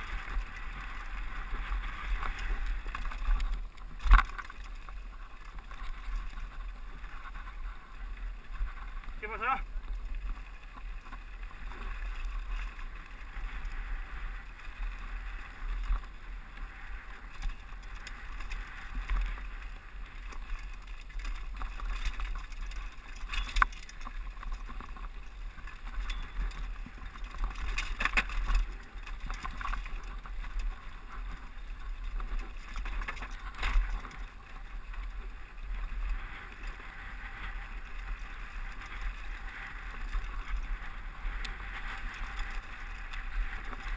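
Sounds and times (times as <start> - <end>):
bike rattling: 0.0 - 43.9
wind and tyre rumble: 0.0 - 43.9.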